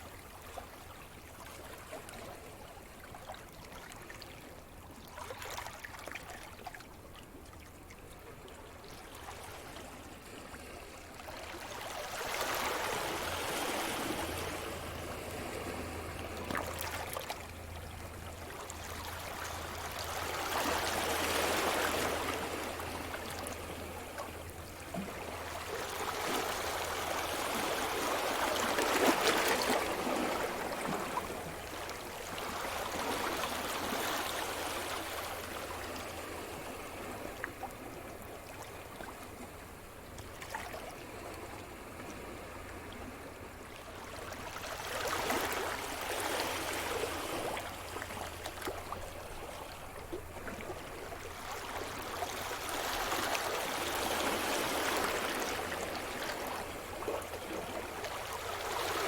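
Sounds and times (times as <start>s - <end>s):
waves breaking on shore: 10.8s - 39.7s, 40.4s - 59.0s.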